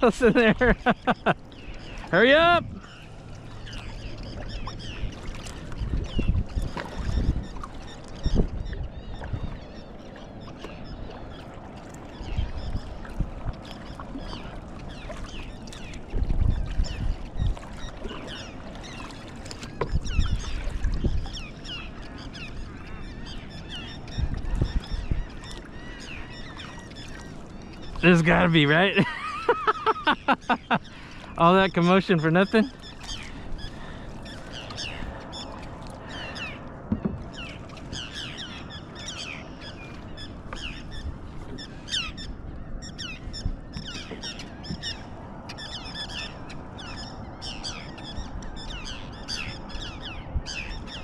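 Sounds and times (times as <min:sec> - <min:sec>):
paddle strokes splashing water: 0:00.0 - 0:51.0
waterbirds calling: 0:00.0 - 0:51.0.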